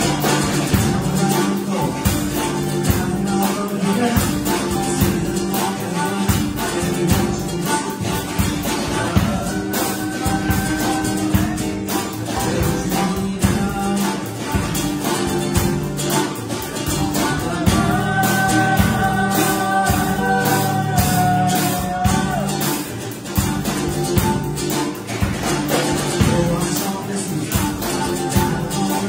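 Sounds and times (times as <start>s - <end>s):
acoustic guitar strumming: 0.0s - 29.0s
drum kit: 0.0s - 29.0s
harmonica: 0.0s - 29.0s.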